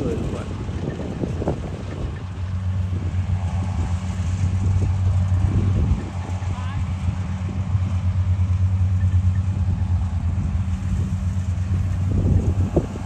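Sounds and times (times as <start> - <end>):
machinery engine humming: 0.0 - 13.0.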